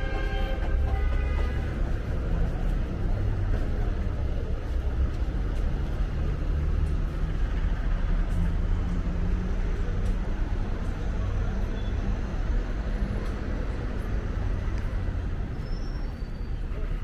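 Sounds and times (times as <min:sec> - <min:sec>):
idling buses: 0:00.0 - 0:17.0
passing cars: 0:00.0 - 0:17.0.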